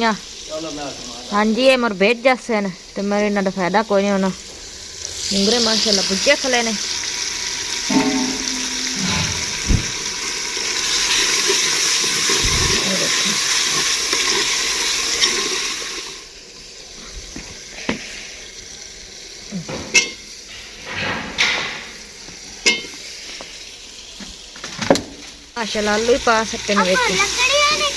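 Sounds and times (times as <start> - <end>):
food sizzling in oil: 0.0 - 21.0, 21.6 - 27.9.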